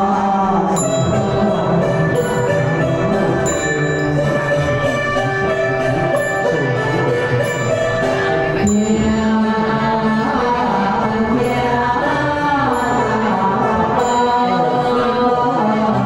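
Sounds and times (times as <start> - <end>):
high ringing notes: 0.0 - 16.0
instrumental music: 0.0 - 16.0
ritual chanting: 0.0 - 16.0.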